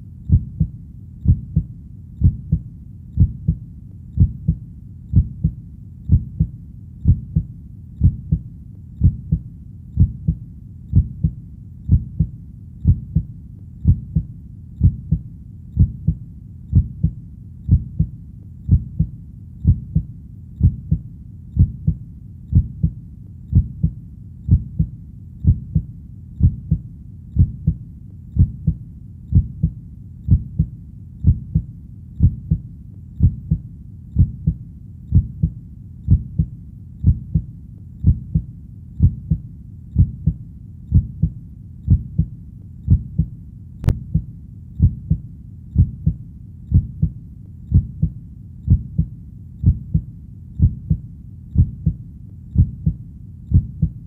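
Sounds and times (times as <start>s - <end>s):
heartbeat double thump: 0.3s - 2.6s, 3.2s - 3.6s, 4.2s - 8.4s, 9.0s - 9.4s, 10.0s - 15.2s, 15.8s - 18.1s, 18.7s - 21.0s, 21.6s - 26.8s, 27.4s - 27.8s, 28.4s - 32.6s, 33.2s - 33.6s, 34.2s - 39.4s, 40.0s - 42.3s, 42.9s - 45.2s, 45.8s - 51.0s, 51.6s - 52.0s, 52.6s - 54.0s.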